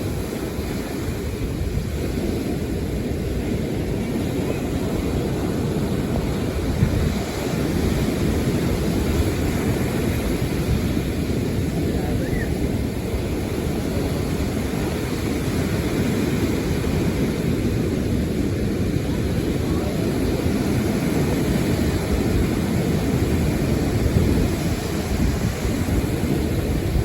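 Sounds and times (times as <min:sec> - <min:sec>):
wind and sea rumble: 0:00.0 - 0:27.0
wind buffeting microphone: 0:00.0 - 0:27.0.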